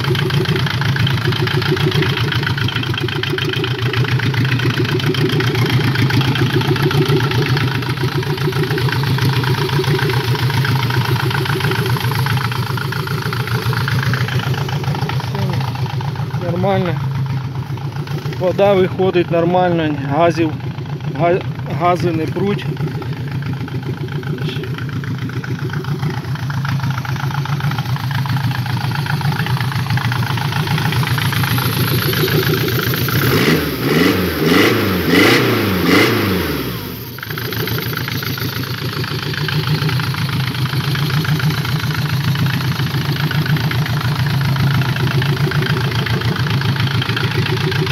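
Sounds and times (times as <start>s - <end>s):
diesel engine idling and revving: 0.0s - 47.9s.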